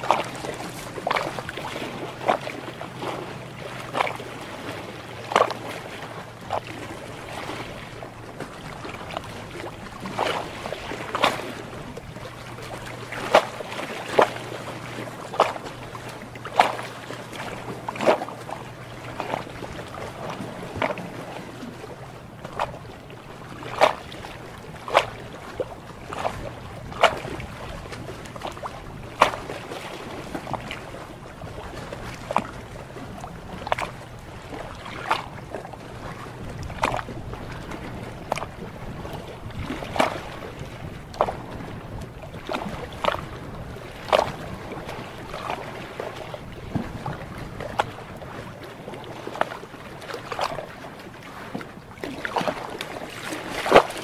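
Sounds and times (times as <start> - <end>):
small waves slapping against hull: 0.0 - 54.0
steady wash of water: 0.0 - 54.0.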